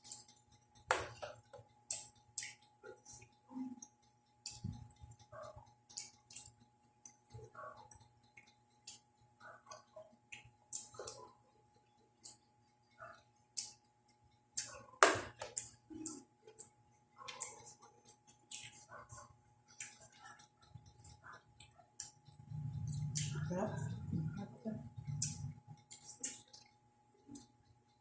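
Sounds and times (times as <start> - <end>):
person chewing and smacking: 0.0 - 24.2, 25.0 - 27.8.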